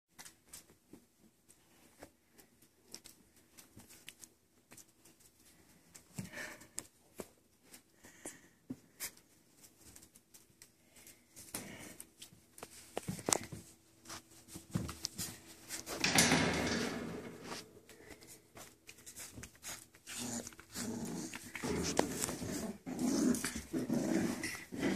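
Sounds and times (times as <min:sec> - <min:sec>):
puppies scuffling: 0:00.1 - 0:24.9.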